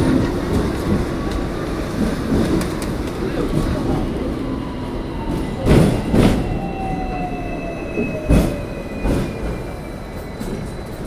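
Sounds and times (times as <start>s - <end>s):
tram running noise: 0.0s - 11.0s.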